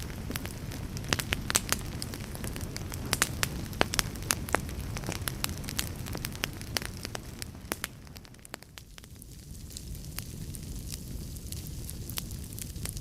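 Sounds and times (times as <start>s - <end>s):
fire flame rumble: 0.0s - 13.0s
logs crackling and popping: 0.0s - 13.0s.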